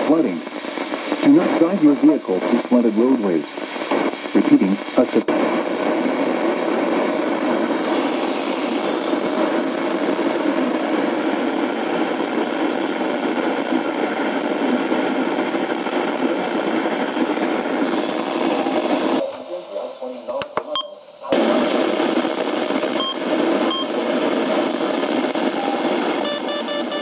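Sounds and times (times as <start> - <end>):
radio static hiss: 0.0 - 27.0.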